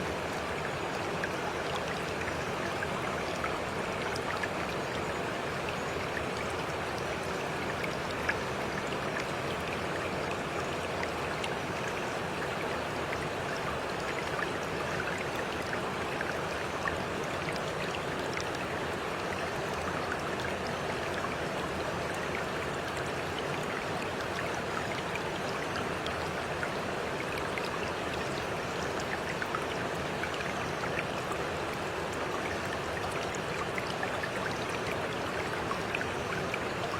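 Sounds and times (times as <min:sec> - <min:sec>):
stream running: 0:00.0 - 0:36.9.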